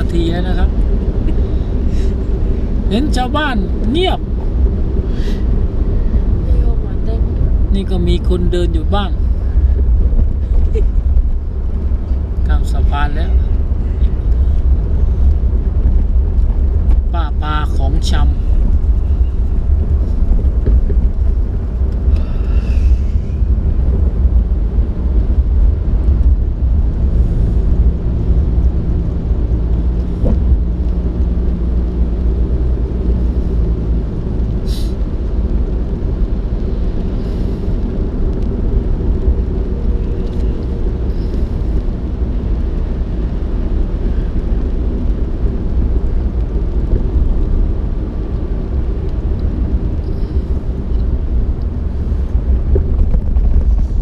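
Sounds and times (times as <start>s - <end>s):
moving vehicle rumble: 0.0s - 54.0s
wind noise on microphone: 0.0s - 54.0s.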